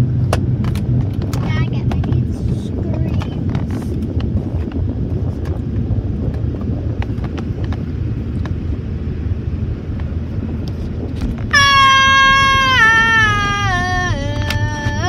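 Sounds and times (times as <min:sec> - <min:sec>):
car wash machinery rumbling: 0:00.0 - 0:15.0.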